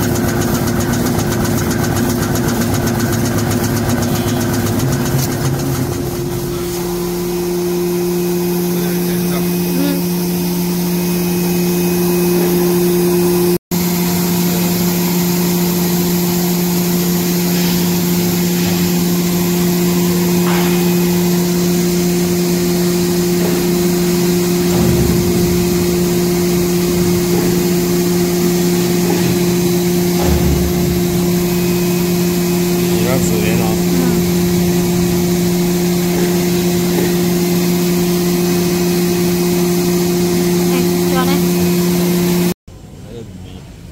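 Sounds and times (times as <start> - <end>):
machine humming and rushing: 0.0 - 42.6.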